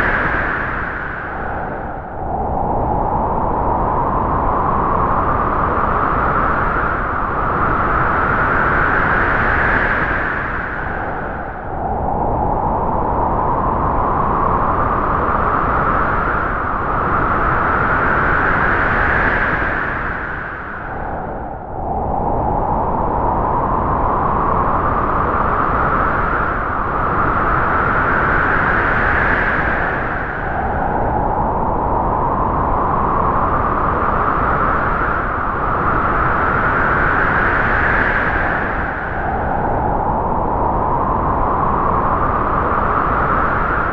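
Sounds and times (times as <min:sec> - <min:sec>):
strong wind howling through trees: 0:00.0 - 0:43.9.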